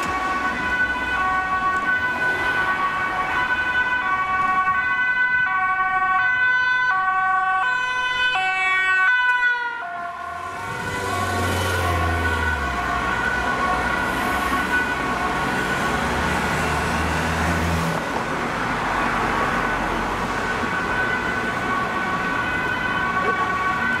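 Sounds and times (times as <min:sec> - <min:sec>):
ambulance siren two-tone: 0:00.0 - 0:17.1, 0:19.4 - 0:24.0
road traffic noise: 0:00.0 - 0:24.0.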